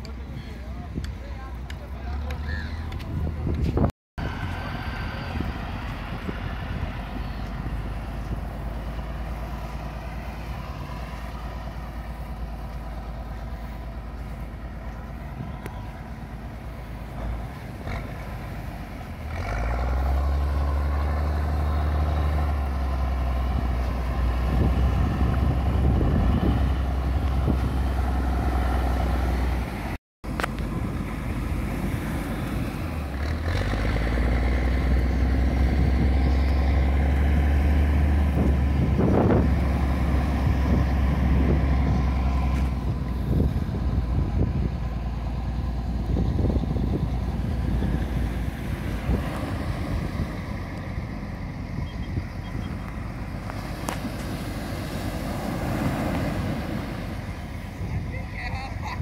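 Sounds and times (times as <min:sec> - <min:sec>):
tractor diesel engine revving: 0:04.2 - 0:58.8.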